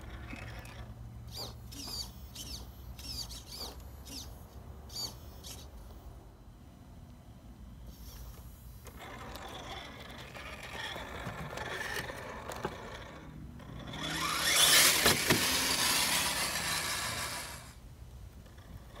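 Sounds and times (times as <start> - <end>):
rc car motor whining: 0.0 - 5.7, 7.9 - 17.8, 18.4 - 19.0.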